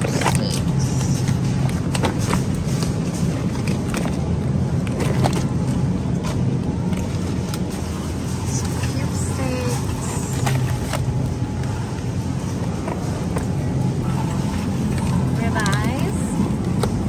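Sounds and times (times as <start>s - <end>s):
supermarket ambience hum: 0.0s - 17.0s.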